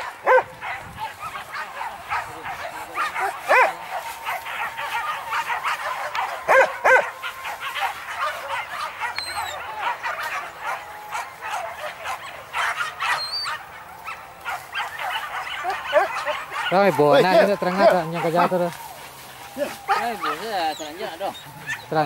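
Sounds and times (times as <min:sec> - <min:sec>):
dogs yelping and barking: 0:00.0 - 0:22.0.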